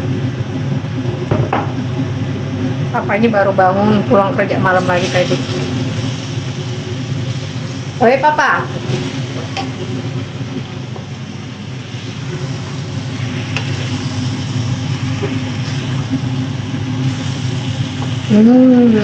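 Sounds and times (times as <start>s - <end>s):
food frying in a wok: 0.0s - 19.0s
steady low hum: 0.0s - 19.0s.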